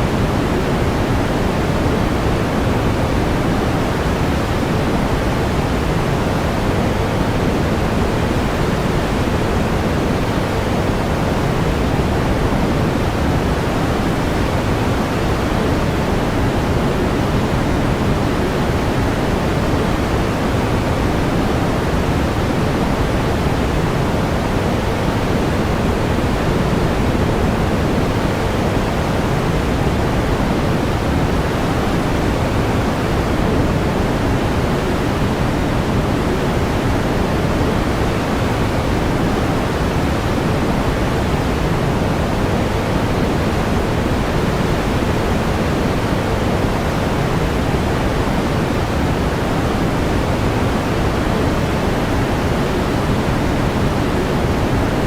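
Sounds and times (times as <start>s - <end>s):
steady pink noise: 0.0s - 55.0s.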